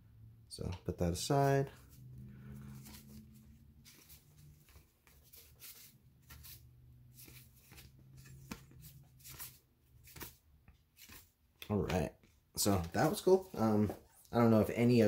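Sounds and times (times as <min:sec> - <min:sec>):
cards rustling: 0:01.4 - 0:12.0, 0:12.6 - 0:15.0.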